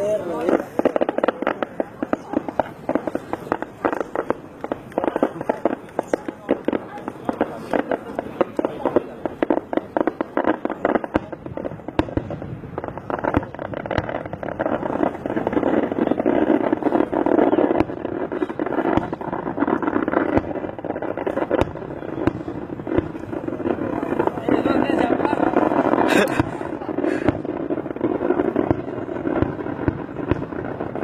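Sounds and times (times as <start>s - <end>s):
firecracker pops: 0.4s - 31.0s
steady rushing noise: 1.6s - 31.0s.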